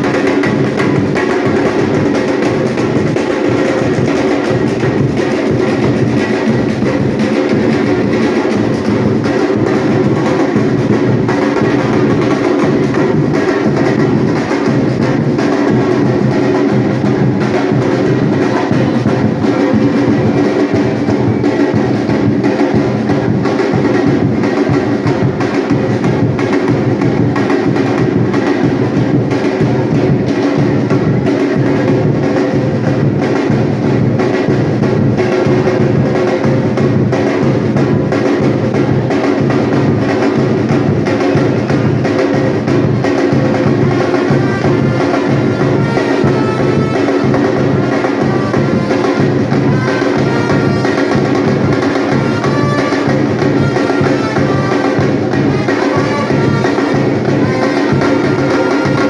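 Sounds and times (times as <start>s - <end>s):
fast percussion drumming: 0.0s - 59.0s.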